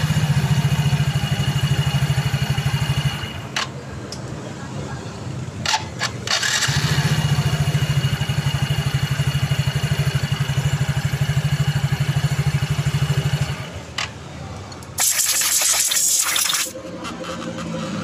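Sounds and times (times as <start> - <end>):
scooter engine idling: 0.0 - 4.0, 4.9 - 14.7, 16.7 - 18.0.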